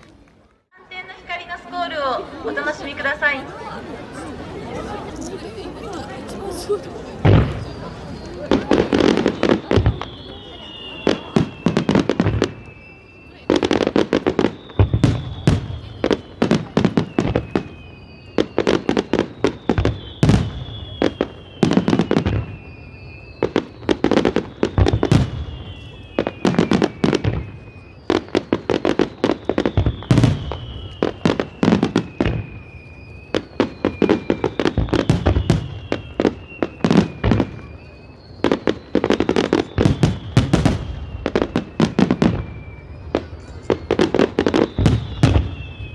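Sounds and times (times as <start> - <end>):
fireworks crackling: 0.0 - 45.9.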